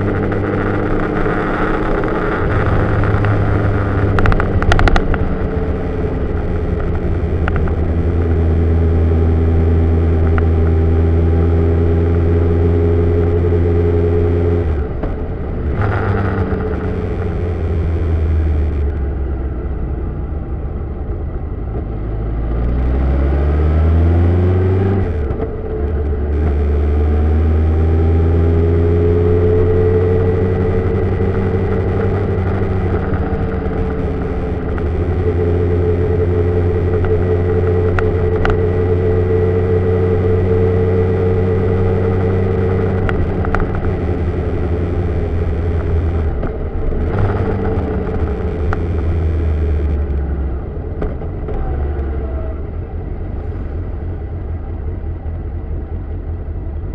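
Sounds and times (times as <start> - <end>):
tyre noise on wet road: 0.0 - 56.9
vehicle engine: 0.0 - 56.9.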